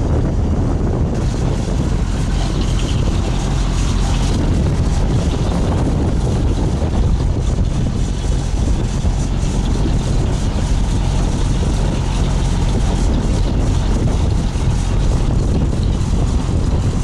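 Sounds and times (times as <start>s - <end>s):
boat diesel engine running: 0.0s - 17.0s.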